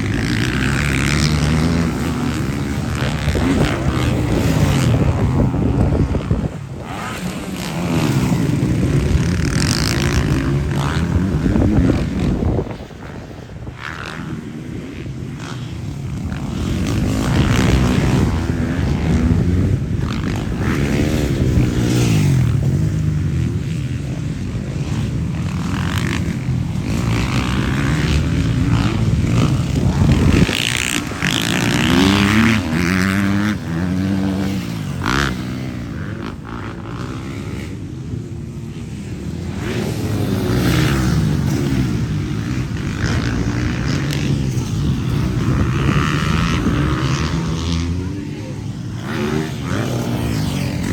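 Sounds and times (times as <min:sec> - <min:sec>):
motorcycles racing past: 0:00.0 - 0:50.9.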